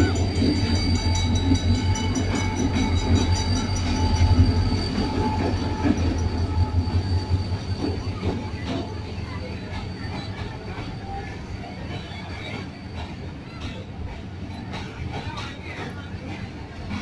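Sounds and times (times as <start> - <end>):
coaches rolling with wheel squeal: 0.0 - 17.0
diesel locomotive engine rumbling: 0.0 - 17.0.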